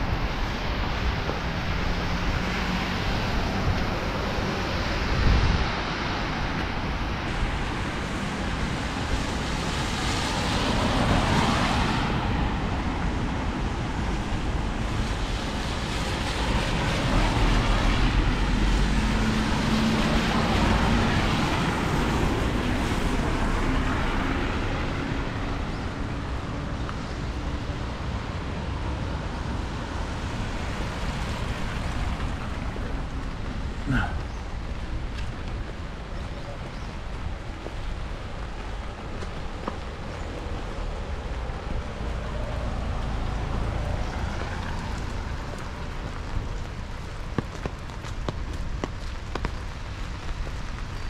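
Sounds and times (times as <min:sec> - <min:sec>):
tyres hissing on wet road: 0:00.0 - 0:51.0.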